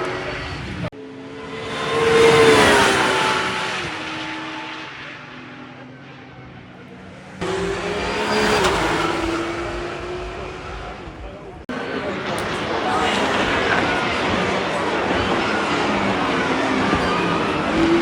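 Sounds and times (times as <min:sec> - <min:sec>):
race car passing: 0:00.0 - 0:18.0.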